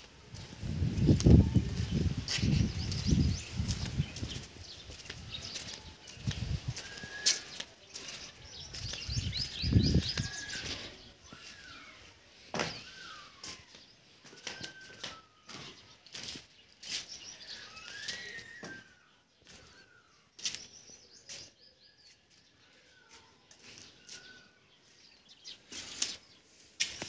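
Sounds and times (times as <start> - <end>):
birds whistling downward: 1.7 - 27.0
bird chirps: 2.2 - 27.0.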